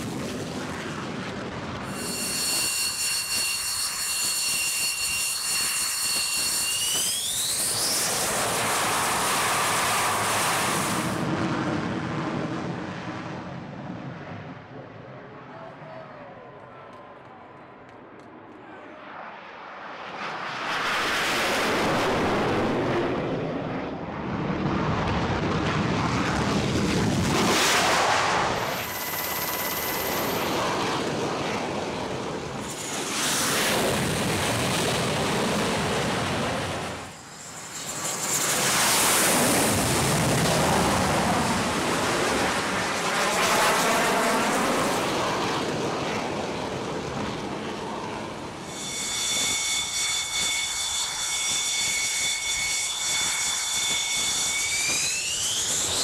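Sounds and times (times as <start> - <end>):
jet engine noise: 0.0 - 56.0.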